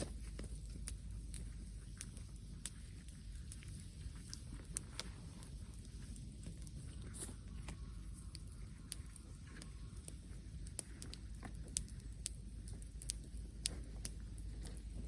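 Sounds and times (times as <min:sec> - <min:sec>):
light crackles and snaps: 0:00.0 - 0:15.0
low steady rumble: 0:00.0 - 0:15.0.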